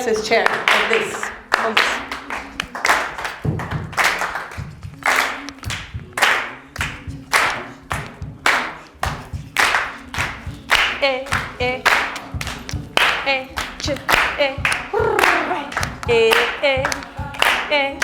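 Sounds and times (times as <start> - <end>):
group clapping rhythm: 0.0 - 18.0
voices singing: 0.0 - 18.0.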